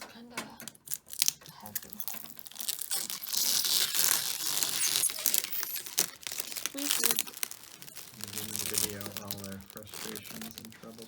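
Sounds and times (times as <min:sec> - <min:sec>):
plastic film peeling off: 0:00.8 - 0:11.0.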